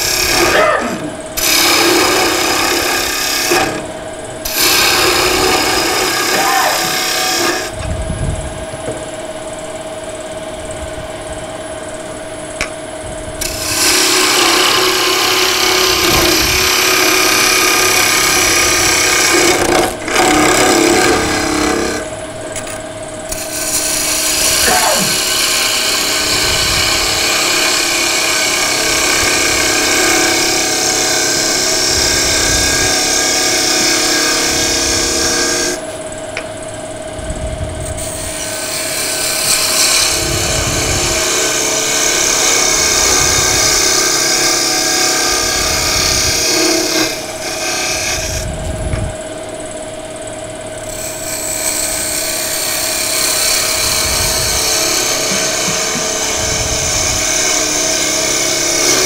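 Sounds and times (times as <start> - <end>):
lathe tool cutting wood: 0.0 - 7.8, 13.4 - 22.2, 23.3 - 36.0, 38.0 - 48.5, 50.8 - 59.0
lathe motor hum: 0.0 - 59.0.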